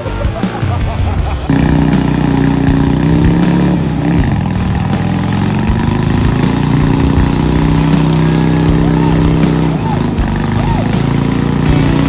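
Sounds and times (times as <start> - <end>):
car engine at high revs: 1.4 - 12.0.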